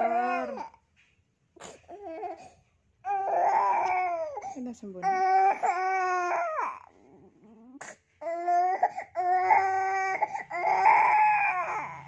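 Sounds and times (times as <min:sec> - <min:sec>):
baby crying: 0:00.0 - 0:00.8, 0:01.6 - 0:06.9, 0:07.8 - 0:12.0.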